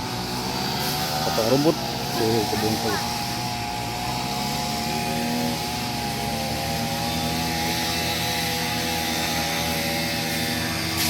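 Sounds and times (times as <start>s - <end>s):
brush cutter engine running: 0.0s - 11.0s.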